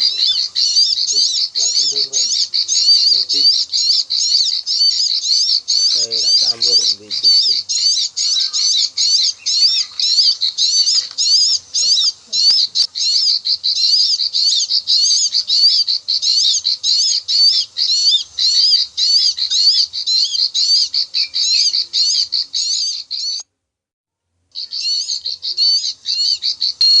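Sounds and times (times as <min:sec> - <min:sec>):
bird chirping high notes: 0:00.0 - 0:23.4, 0:24.6 - 0:27.0.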